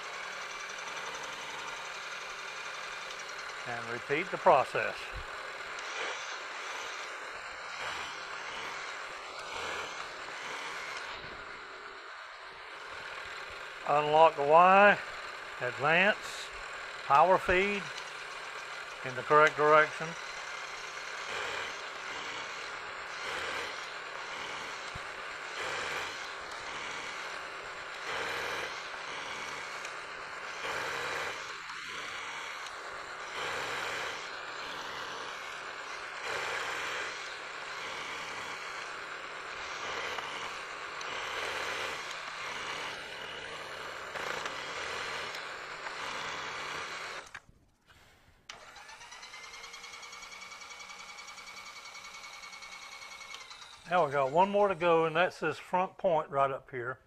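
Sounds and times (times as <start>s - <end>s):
milling machine cutting metal: 0.0s - 47.4s, 48.5s - 55.2s
motor whine: 0.0s - 55.1s.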